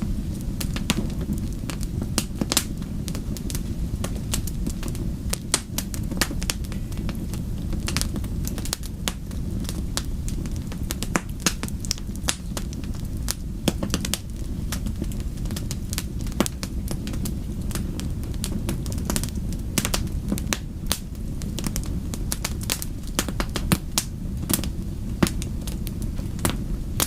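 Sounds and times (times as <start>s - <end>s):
fire pops and snaps: 0.0s - 27.0s
low rumble of flames: 0.0s - 27.0s
wood fire crackling: 0.0s - 27.0s.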